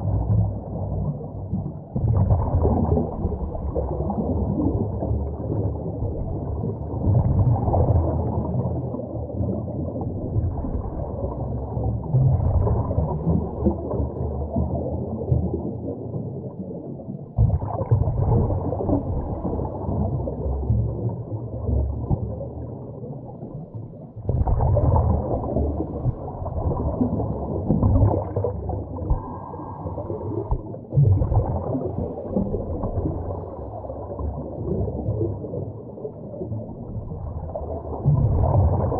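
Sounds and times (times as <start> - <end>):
underwater exhaled bubbles: 0.0 - 38.9.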